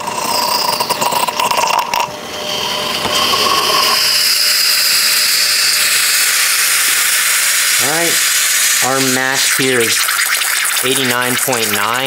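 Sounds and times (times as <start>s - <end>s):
espresso machine hissing: 0.0s - 12.0s.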